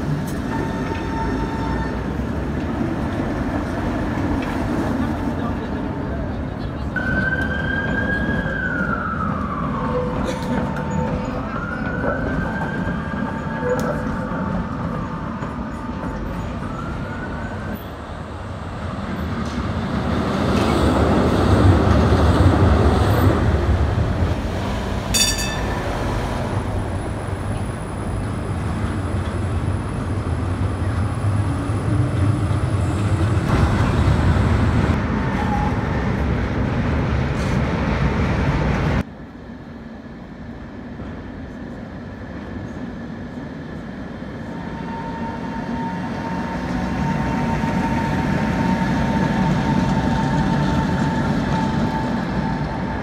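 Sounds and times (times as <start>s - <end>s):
tram rumbling on rails: 0.0s - 53.0s.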